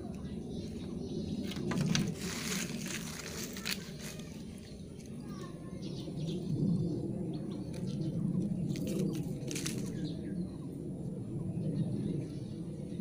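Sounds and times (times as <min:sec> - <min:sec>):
faint birds chirping: 0:00.0 - 0:13.0
steady low rumble: 0:00.0 - 0:13.0.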